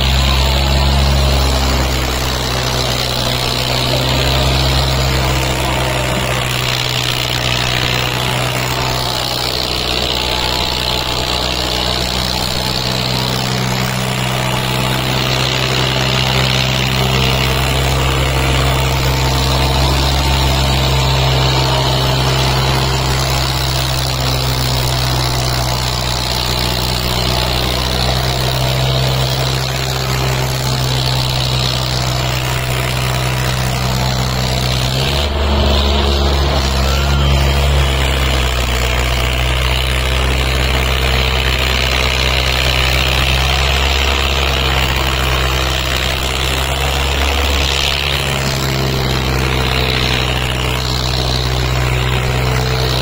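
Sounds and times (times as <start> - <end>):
diesel tractor engines under load: 0.0 - 53.0.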